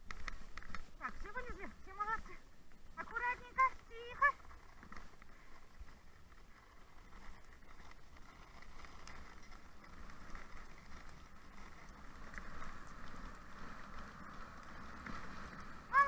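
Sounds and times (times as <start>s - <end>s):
faint ticks: 0.0s - 1.3s, 2.2s - 15.8s
wind rumbling on microphone: 0.0s - 16.0s.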